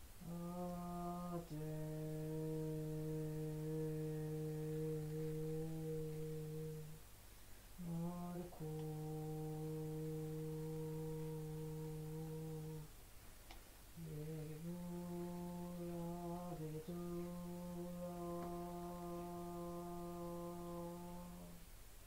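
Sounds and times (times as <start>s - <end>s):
woman chanting: 0.2s - 7.0s, 7.8s - 12.9s, 14.0s - 21.6s.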